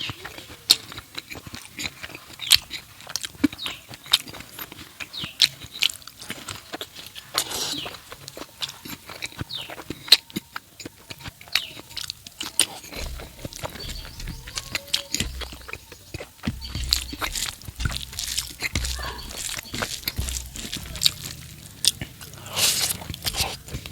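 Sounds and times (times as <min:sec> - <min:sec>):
wet chewing and lip smacks: 0:00.0 - 0:23.9.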